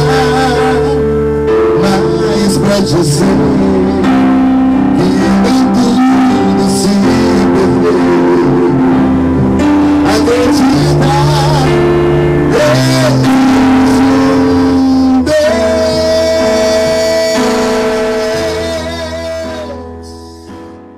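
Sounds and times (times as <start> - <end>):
held high melody note: 0.0 - 20.6
gospel pop song: 0.0 - 20.9
guitar and keyboard chords: 0.0 - 20.9.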